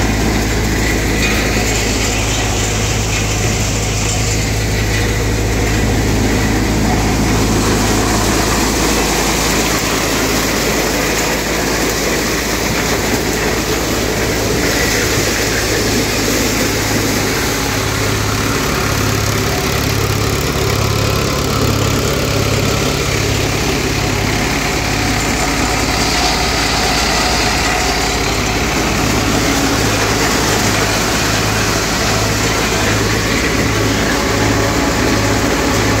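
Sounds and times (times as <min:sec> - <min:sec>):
thresher mechanical din: 0:00.0 - 0:36.0
tractor diesel engine running: 0:00.0 - 0:36.0.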